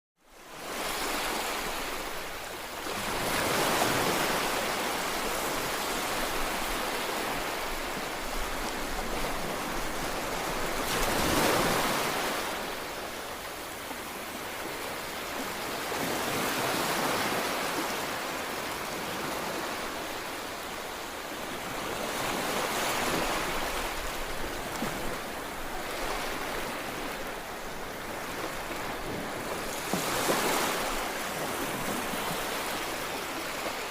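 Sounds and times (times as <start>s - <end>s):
ocean waves breaking: 0.5s - 33.9s.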